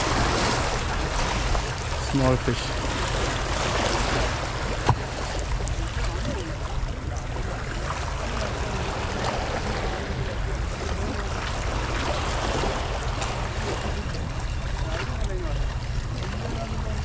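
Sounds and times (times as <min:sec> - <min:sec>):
water noise: 0:00.0 - 0:17.0
wind: 0:00.0 - 0:17.0.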